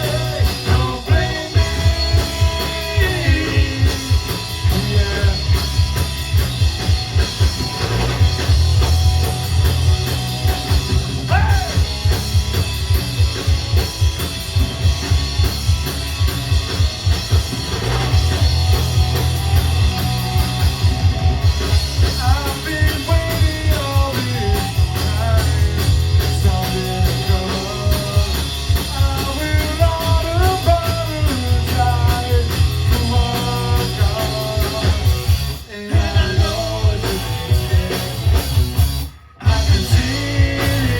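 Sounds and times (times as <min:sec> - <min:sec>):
bending lead guitar line: 0:00.0 - 0:40.9
fast drum beat: 0:00.0 - 0:40.9
rock band playing live: 0:00.0 - 0:40.9.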